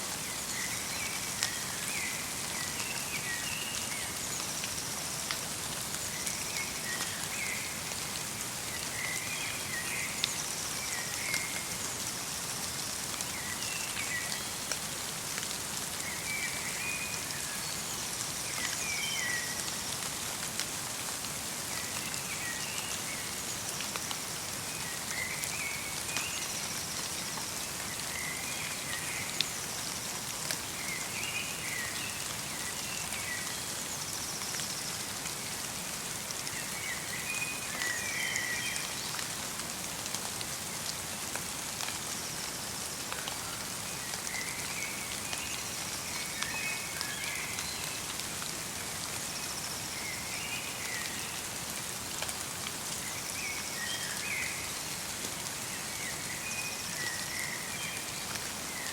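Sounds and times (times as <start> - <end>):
light rain falling: 0.0 - 58.9.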